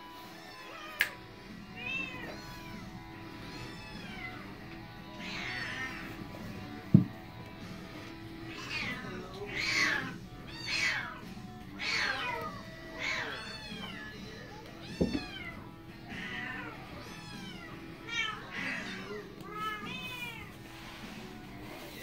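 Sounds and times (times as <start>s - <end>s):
kittens meowing: 0.3s - 7.1s, 8.4s - 20.6s.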